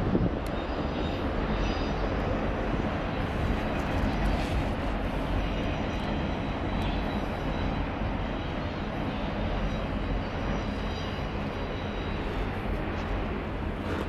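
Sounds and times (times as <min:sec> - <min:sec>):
freight train wheels rumbling on rail: 0:00.0 - 0:14.0.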